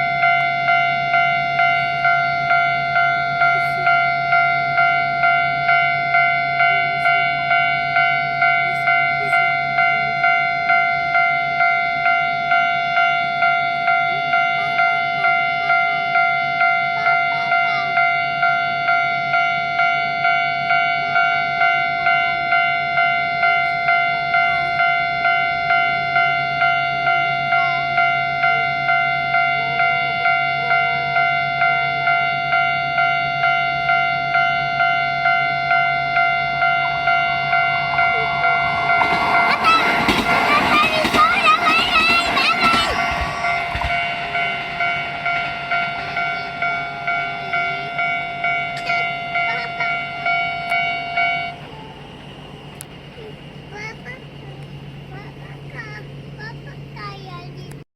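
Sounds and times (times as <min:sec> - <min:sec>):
level crossing alarm bell: 0:00.0 - 0:57.0.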